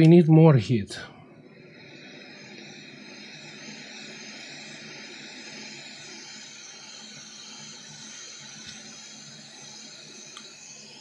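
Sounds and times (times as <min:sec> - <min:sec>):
hot air gun hissing: 0:00.0 - 0:11.0.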